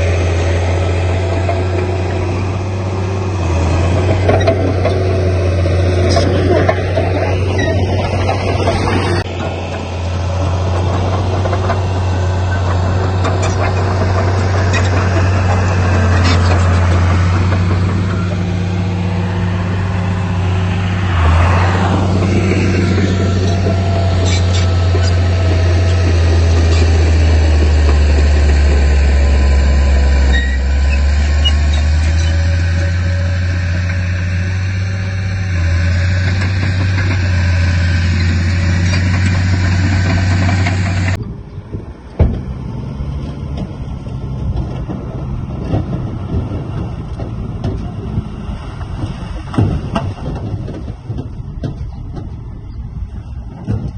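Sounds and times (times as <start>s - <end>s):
heavy diesel engine humming: 0.0s - 53.9s.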